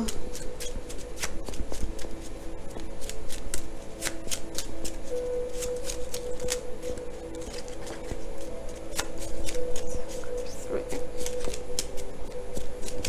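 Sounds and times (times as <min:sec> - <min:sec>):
cards being shuffled: 0:00.0 - 0:13.0
faint background music: 0:00.0 - 0:13.0.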